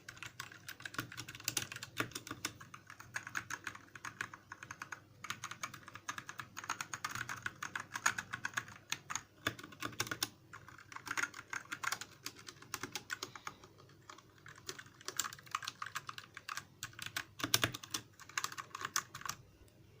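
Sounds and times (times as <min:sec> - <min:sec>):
mechanical keyboard typing: 0:00.0 - 0:19.4.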